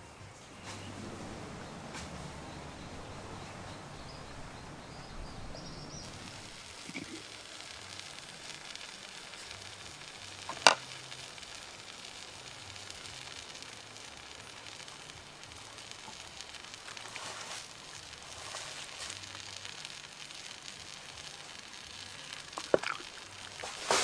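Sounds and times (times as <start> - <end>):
water sizzling hiss: 0.0 - 24.0.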